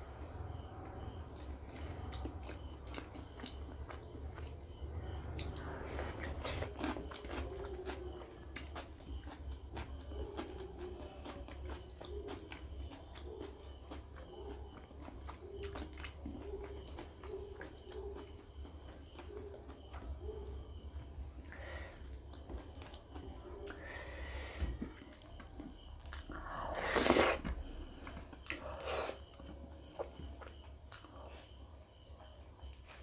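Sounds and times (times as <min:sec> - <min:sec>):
person chewing food: 0:00.3 - 0:33.0.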